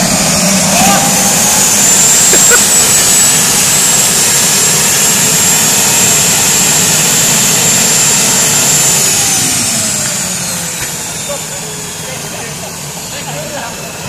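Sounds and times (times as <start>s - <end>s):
turbojet engine whine and rush: 0.0s - 14.0s.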